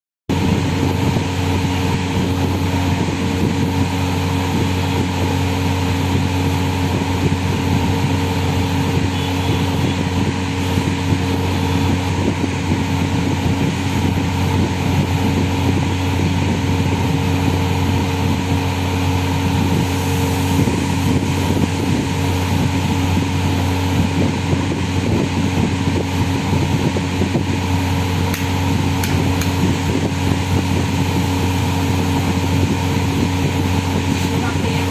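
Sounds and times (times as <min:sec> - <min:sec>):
droning tones: 0:00.3 - 0:34.9
steady machine hum: 0:00.3 - 0:34.9.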